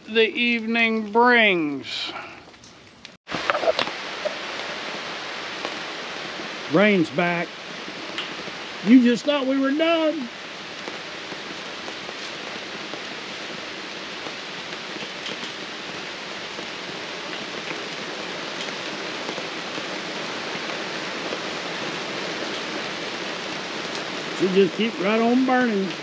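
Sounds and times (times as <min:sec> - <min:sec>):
raindrops ticking: 0:00.0 - 0:05.9, 0:06.6 - 0:26.0
rain falling on pavement: 0:03.3 - 0:26.0.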